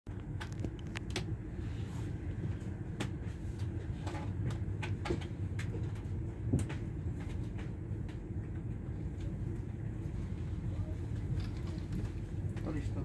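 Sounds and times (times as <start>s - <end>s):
train carriage rumble: 0.1s - 13.0s.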